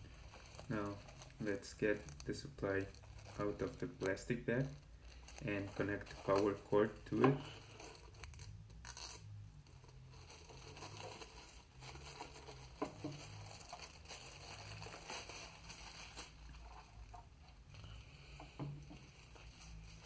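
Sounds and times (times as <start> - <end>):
plastic bag crinkling: 0.0 - 18.4, 19.0 - 20.0.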